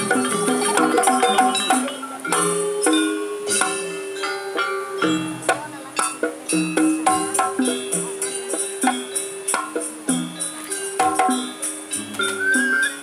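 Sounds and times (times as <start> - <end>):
drum strokes: 0.0 - 13.0
jingling rattle: 0.0 - 13.0
metal keyed instruments melody: 0.0 - 13.0
wavering high tone: 0.0 - 13.0.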